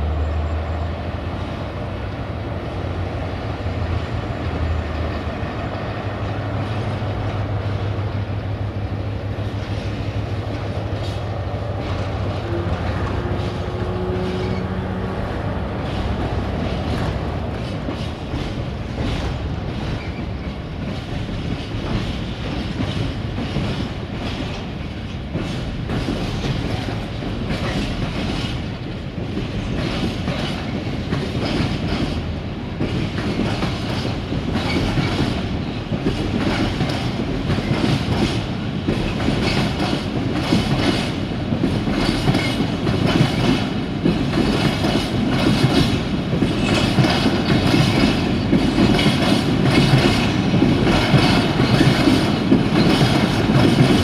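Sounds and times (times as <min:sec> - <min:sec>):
train wheels clattering over rail joints: 0:04.6 - 0:54.0.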